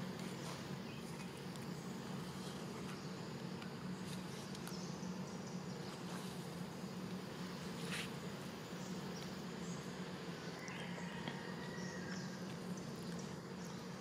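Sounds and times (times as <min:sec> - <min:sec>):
low outdoor background hum: 0:00.0 - 0:14.0.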